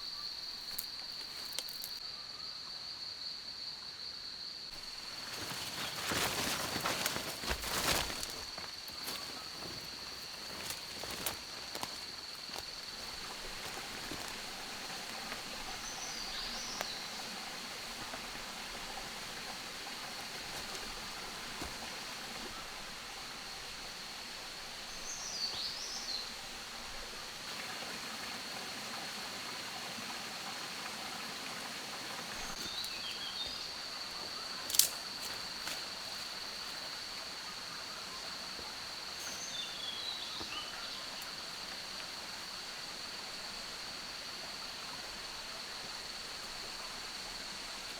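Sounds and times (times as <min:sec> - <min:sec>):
insect drone: 0:00.0 - 0:47.9
soft hiss: 0:04.8 - 0:47.9.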